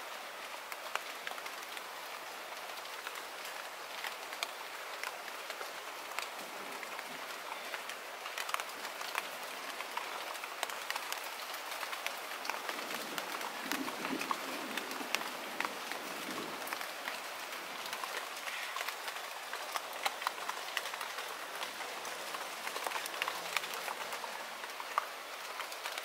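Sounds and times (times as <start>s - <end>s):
light rain on pond: 0.0s - 26.0s
raindrops ticking: 0.3s - 26.0s.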